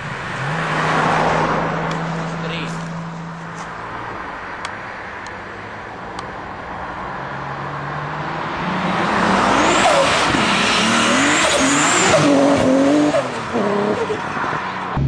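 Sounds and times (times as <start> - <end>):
car engine revving: 0.0 - 4.4, 6.8 - 15.0.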